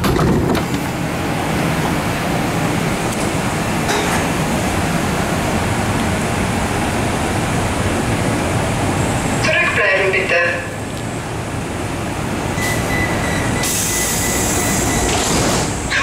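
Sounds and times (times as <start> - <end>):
subway train standing at platform: 0.0 - 16.0.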